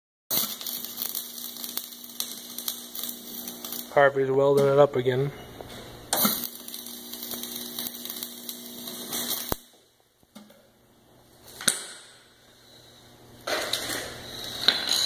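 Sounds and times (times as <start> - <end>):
arc welding crackle and hiss: 0.3 - 5.3, 6.0 - 15.0.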